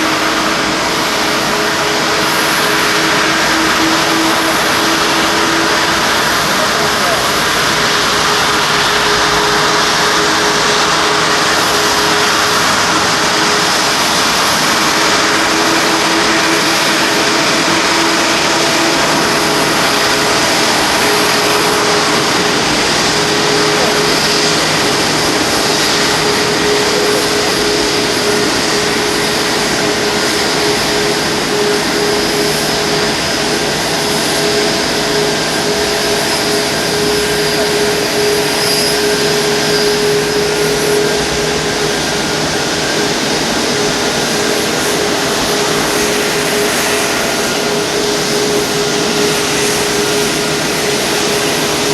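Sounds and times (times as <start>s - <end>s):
jet engines idling: 0.0s - 51.9s.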